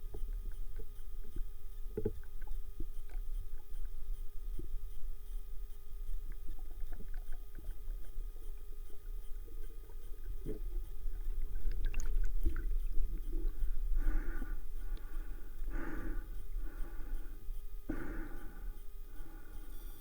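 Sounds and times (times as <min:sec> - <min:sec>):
low underwater rumble: 0:00.0 - 0:20.0.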